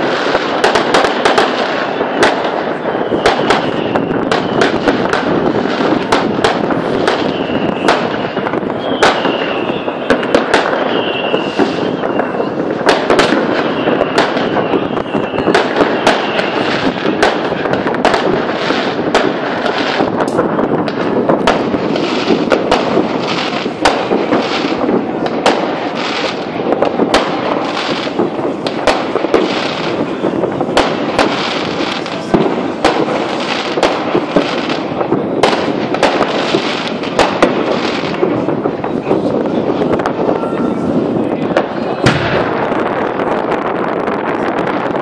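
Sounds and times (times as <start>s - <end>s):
fireworks and firecrackers banging: 0.0s - 45.0s.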